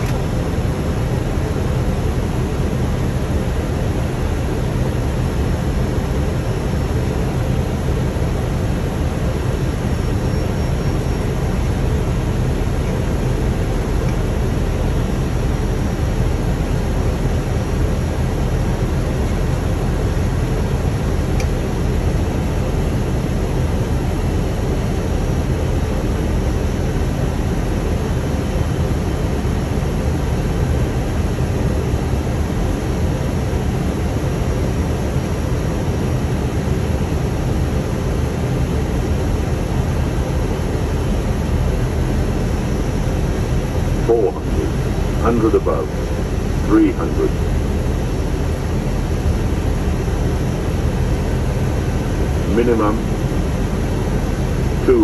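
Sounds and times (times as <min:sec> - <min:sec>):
cockpit airflow and engine rush: 0:00.0 - 0:55.0.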